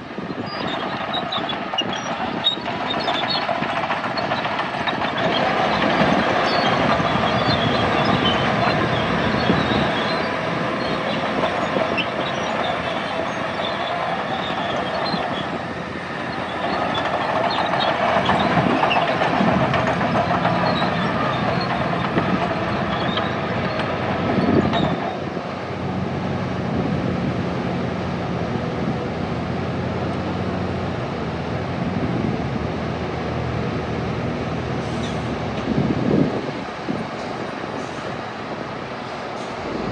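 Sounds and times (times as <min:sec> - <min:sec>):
bulldozer diesel engine: 0:00.0 - 0:39.9
steel tracks clattering: 0:00.1 - 0:27.8, 0:34.2 - 0:39.9.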